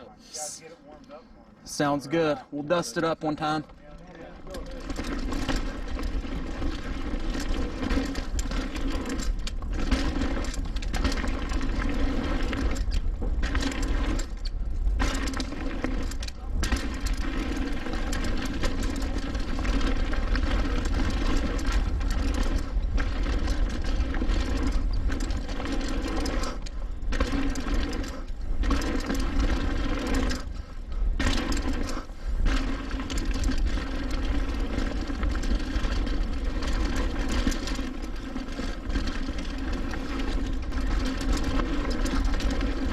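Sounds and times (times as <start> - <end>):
wind and trail rumble: 3.2 - 42.9
bicycle freehub buzzing: 4.2 - 42.9.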